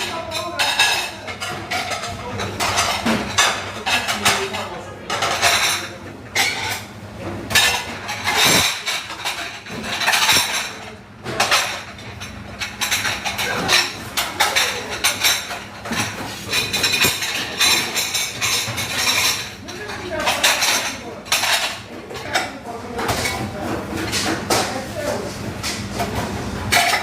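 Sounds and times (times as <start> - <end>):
dishes and cutlery clattering: 0.0 - 27.0.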